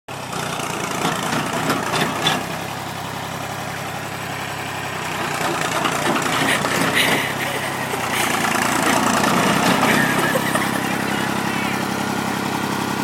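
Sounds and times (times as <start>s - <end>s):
tractor engine idling: 0.1s - 13.0s.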